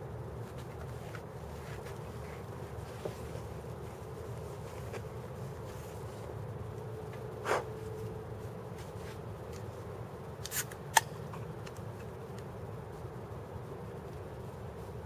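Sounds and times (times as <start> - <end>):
distant freeway traffic rumble: 0.0 - 15.0
handling noises: 0.1 - 12.5.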